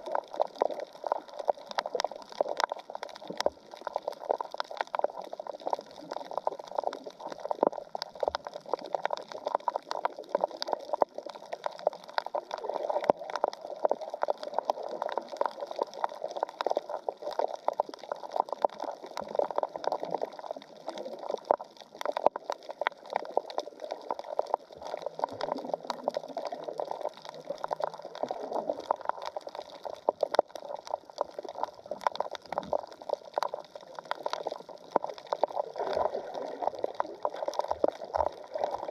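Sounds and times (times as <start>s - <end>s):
crackle of reef clicks: 0.0s - 38.9s.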